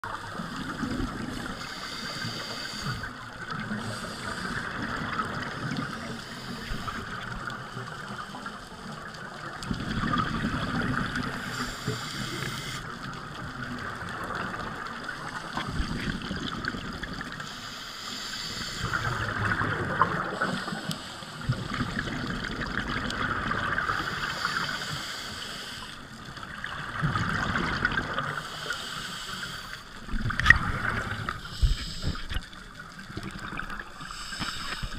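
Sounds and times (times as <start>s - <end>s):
regulator bubbles gurgling: 0.0s - 17.5s, 18.4s - 34.9s
steady underwater rushing: 0.0s - 34.9s.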